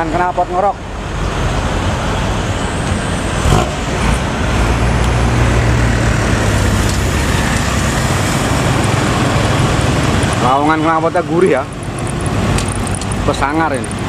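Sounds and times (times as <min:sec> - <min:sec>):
bus diesel engine exhaust roar: 0:00.0 - 0:14.0
road noise: 0:00.0 - 0:14.0.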